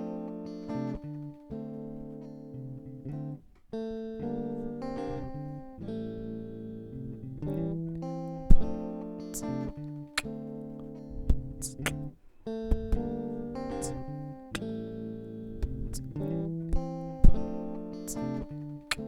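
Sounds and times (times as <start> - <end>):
acoustic guitar chords: 0.0 - 19.0.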